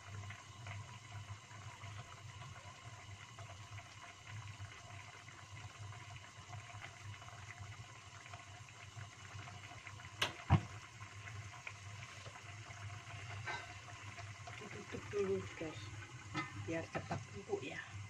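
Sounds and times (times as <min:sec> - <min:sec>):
broth bubbling: 0:00.0 - 0:18.0.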